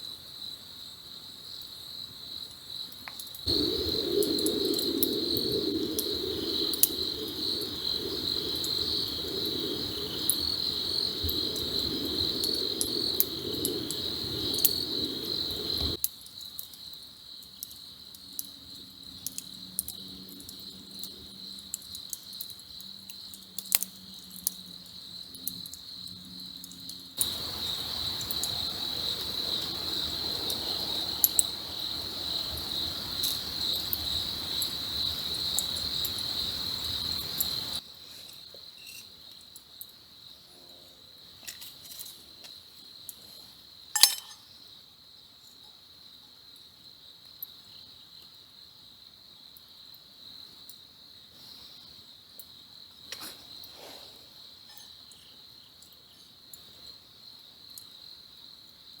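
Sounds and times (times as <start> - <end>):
crackling hiss: 0.0 - 45.7, 46.4 - 58.9
crickets trilling: 0.0 - 59.0.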